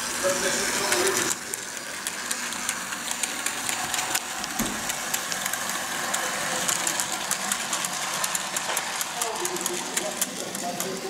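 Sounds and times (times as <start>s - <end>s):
model train running: 0.0s - 11.0s
wheels clicking on rails: 0.0s - 11.0s.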